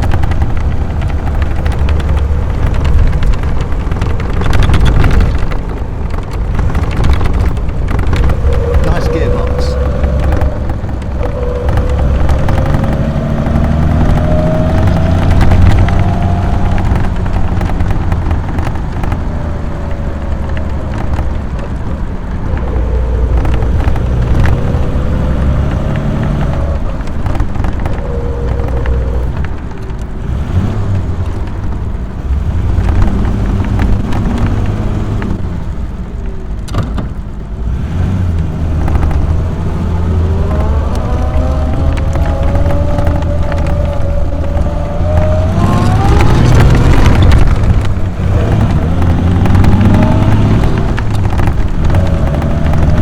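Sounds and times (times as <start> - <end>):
car engine running: 0.0 - 53.0
road noise: 0.0 - 53.0.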